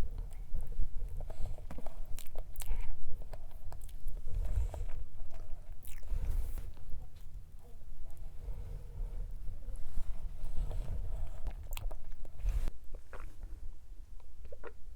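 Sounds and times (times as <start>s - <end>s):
chewing cake: 0.0s - 8.4s, 9.2s - 13.6s, 14.2s - 14.9s.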